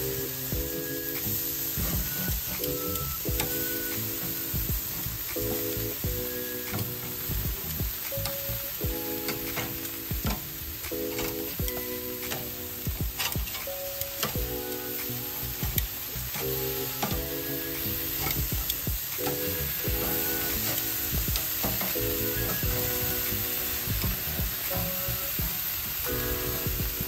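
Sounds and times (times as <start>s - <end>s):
background music: 0.0s - 27.0s
patties sizzling on a grill: 0.0s - 27.0s.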